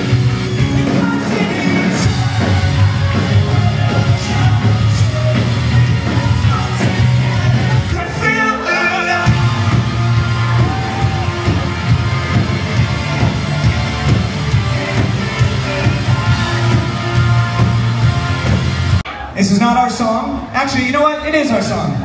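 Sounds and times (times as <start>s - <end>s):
pop-punk band playing live: 0.0s - 19.2s
person singing: 0.6s - 18.5s.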